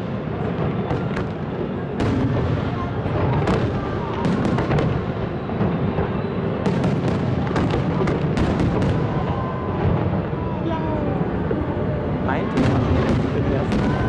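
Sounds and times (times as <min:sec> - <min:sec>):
distant fireworks rumble: 0:00.0 - 0:14.0
fireworks bangs and crackles: 0:00.0 - 0:14.0.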